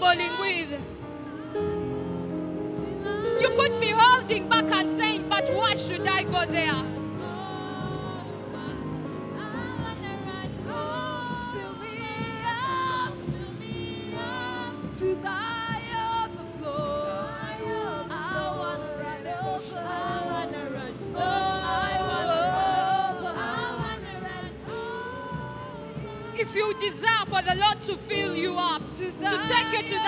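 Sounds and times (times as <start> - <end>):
sustained backing chords: 0.0 - 30.0.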